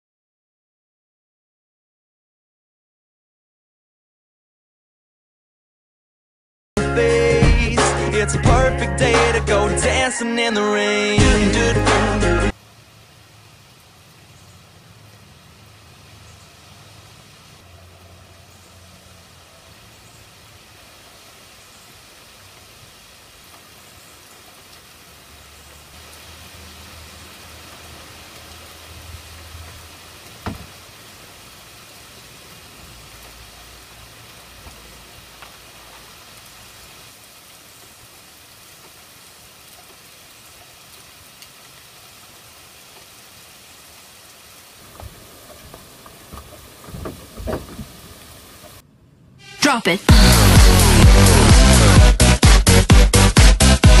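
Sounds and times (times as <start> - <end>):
light rain hissing: 7.0 - 53.8.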